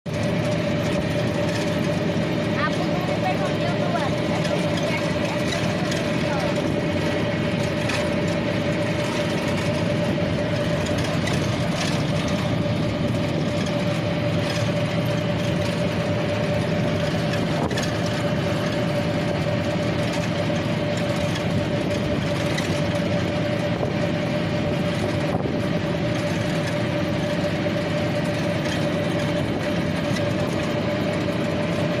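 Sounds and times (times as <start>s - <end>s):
vehicle rumbling: 0.0s - 32.0s
constant hum: 0.1s - 32.0s.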